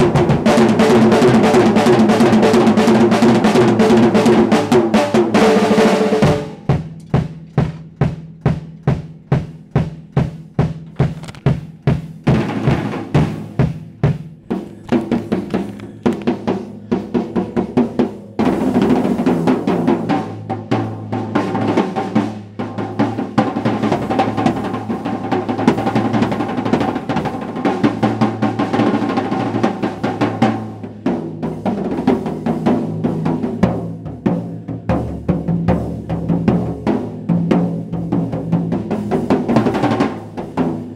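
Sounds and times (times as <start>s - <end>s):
acoustic drum kit playing: 0.0s - 40.9s.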